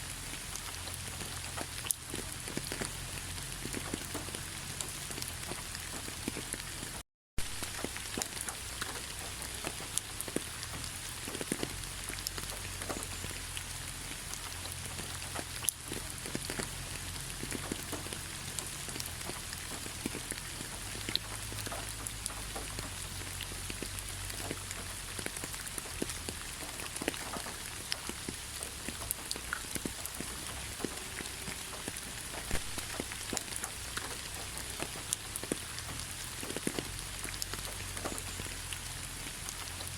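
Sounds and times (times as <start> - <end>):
steady rain hiss: 0.0 - 39.9
raindrops tapping: 0.1 - 39.9.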